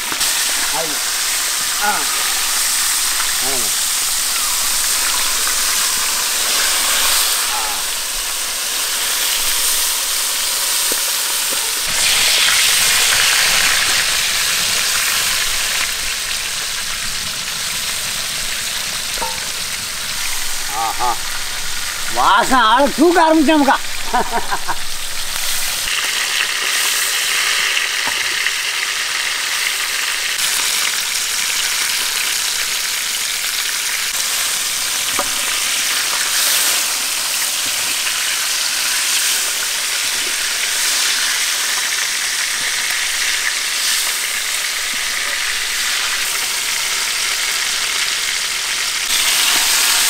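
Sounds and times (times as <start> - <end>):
fish frying in oil: 0.0 - 50.0.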